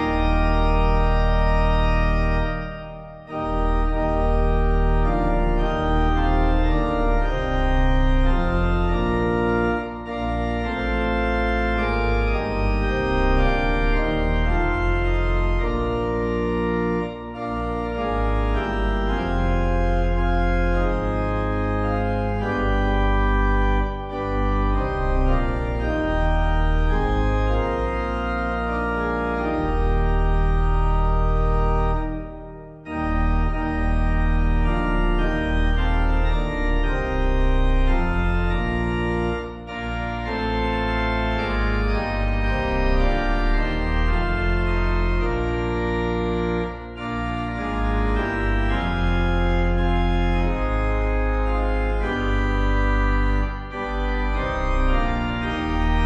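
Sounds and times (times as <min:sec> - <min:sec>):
organ chords over deep bass: 0:00.0 - 0:56.0.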